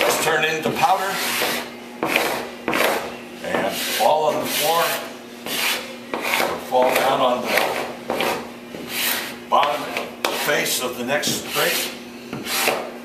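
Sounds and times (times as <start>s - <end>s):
hand scraper rasping on wood: 0.0s - 12.9s.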